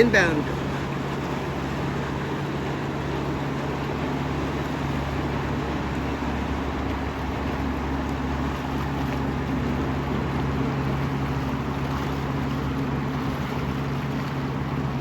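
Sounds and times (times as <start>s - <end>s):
boat engine humming: 0.0s - 15.0s
wind and water hiss: 0.0s - 15.0s.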